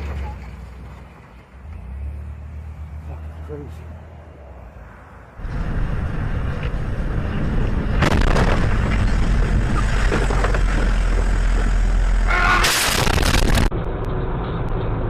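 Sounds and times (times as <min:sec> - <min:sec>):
vehicle rumble on road: 0:00.0 - 0:15.0.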